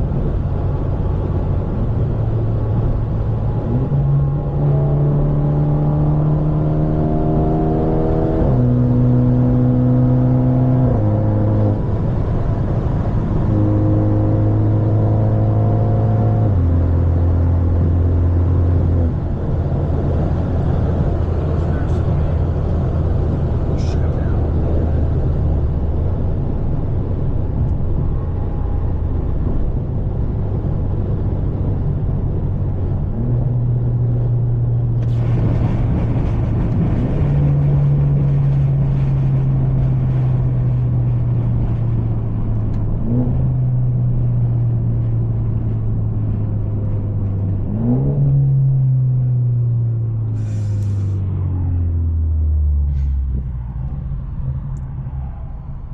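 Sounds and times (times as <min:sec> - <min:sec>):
car exhaust droning: 0:10.4 - 0:55.9.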